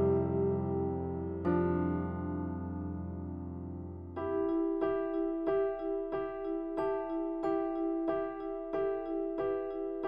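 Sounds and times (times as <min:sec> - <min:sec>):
soft slow piano music: 0:00.0 - 0:10.0.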